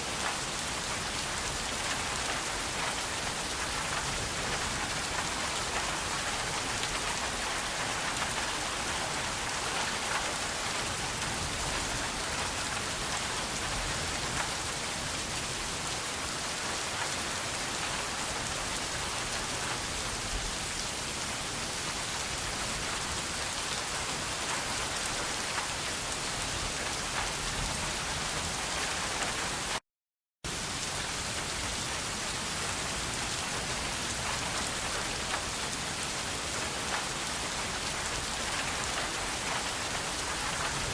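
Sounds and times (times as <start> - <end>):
steady rain falling: 0.0 - 29.8, 30.5 - 40.9.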